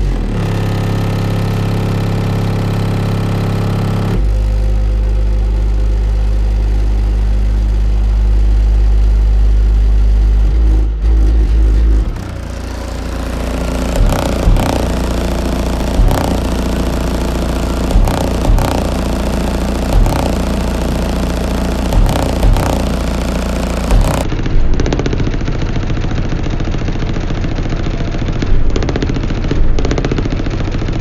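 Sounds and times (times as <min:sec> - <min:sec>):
loud sustained subwoofer bass notes: 0:00.0 - 0:31.0.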